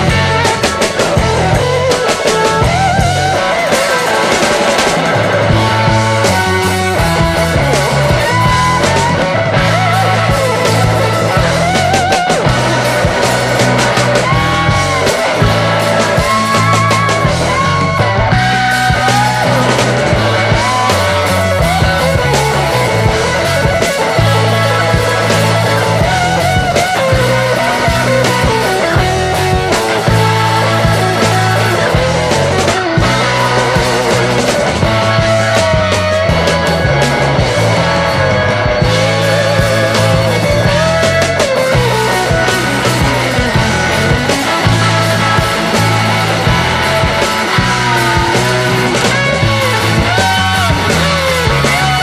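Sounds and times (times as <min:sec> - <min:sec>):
bass line: 0:00.0 - 0:52.0
drums: 0:00.0 - 0:52.0
lead guitar bending notes: 0:00.0 - 0:52.0
rock music: 0:00.0 - 0:52.0.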